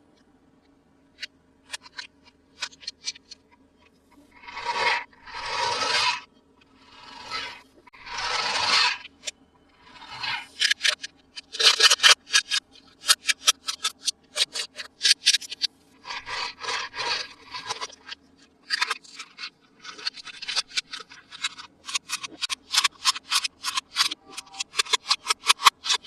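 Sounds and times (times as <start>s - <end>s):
rubbing and scraping: 3.9s - 26.0s.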